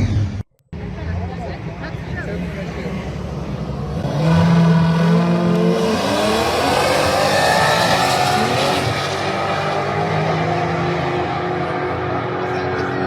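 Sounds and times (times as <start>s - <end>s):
car engine revving and accelerating: 2.4s - 13.0s.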